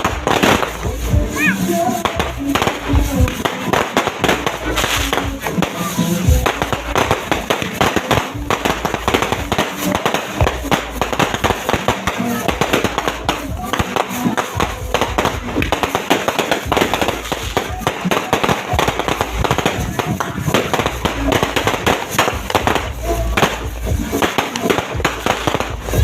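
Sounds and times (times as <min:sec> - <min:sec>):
fireworks and firecrackers banging: 0:00.0 - 0:26.0.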